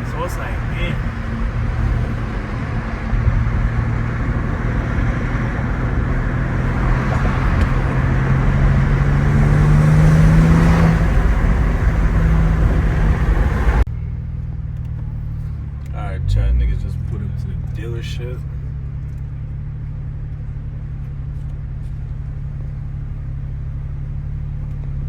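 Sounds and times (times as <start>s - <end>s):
car engine accelerating: 0.0s - 25.0s
tyre and road noise: 0.0s - 25.0s.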